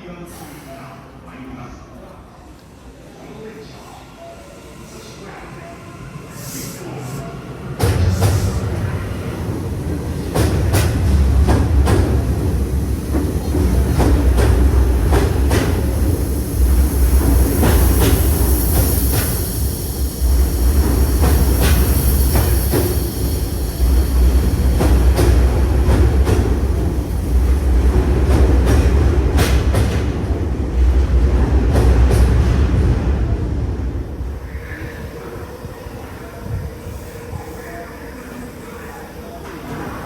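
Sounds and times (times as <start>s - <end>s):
high train whine: 0.0s - 40.0s
electric train rumbling past: 2.7s - 40.0s.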